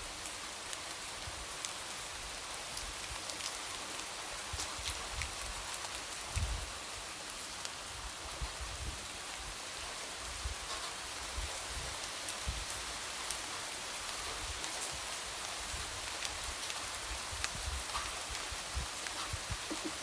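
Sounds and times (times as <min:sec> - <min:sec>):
light rain falling: 0:00.0 - 0:20.0.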